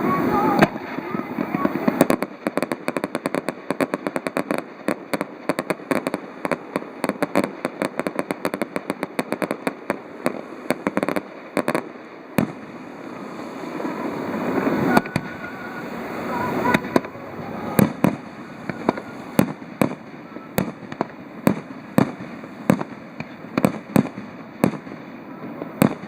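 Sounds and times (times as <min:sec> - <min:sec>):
firework bangs: 0:00.0 - 0:26.0
fireworks crackling: 0:00.0 - 0:26.0.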